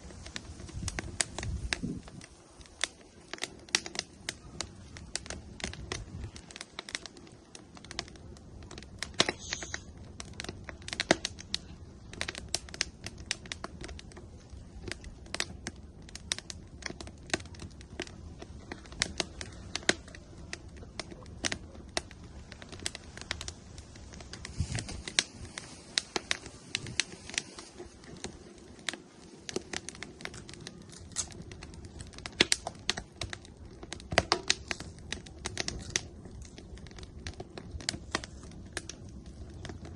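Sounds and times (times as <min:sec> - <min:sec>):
firewood popping and snapping: 0:00.0 - 0:39.9
low rush of flame: 0:00.0 - 0:39.9.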